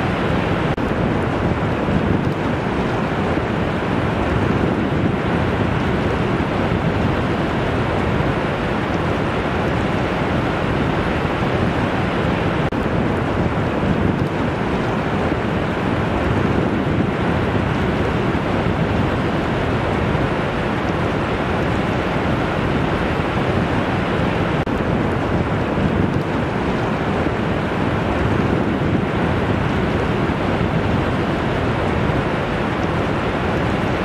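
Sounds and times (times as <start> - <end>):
ocean surf washing in: 0.0 - 34.0
wind buffeting microphone: 0.0 - 34.0.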